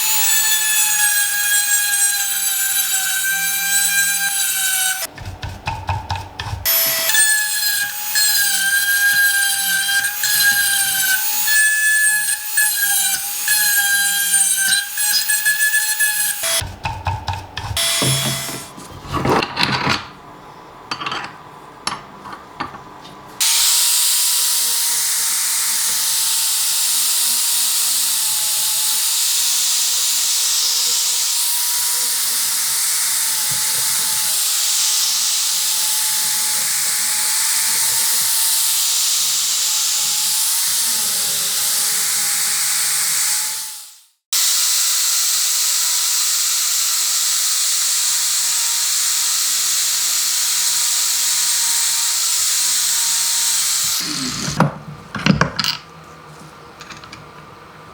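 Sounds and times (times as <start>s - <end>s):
power tool hissing and whining: 0.0s - 5.1s, 6.6s - 16.6s, 17.8s - 18.7s, 23.4s - 54.6s.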